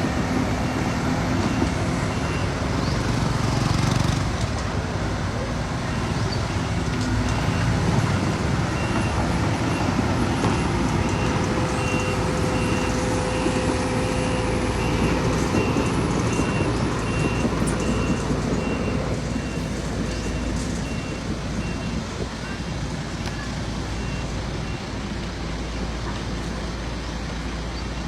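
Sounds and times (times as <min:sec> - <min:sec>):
diesel machinery running: 0:00.0 - 0:28.0.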